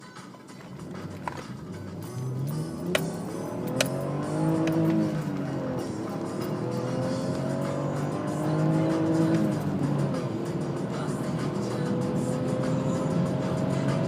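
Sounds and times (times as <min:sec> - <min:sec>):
car engine accelerating: 0:00.6 - 0:14.0.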